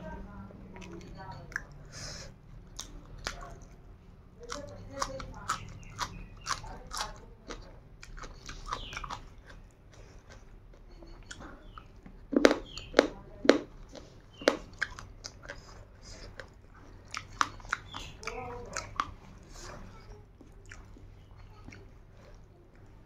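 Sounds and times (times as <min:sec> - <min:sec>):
chewing food with mouth smacks: 0:00.7 - 0:23.0.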